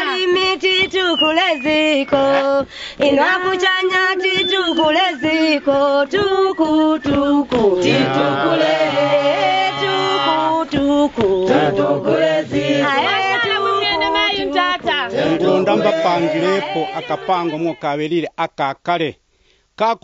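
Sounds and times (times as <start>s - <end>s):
voices singing chant-like song: 0.0s - 17.9s.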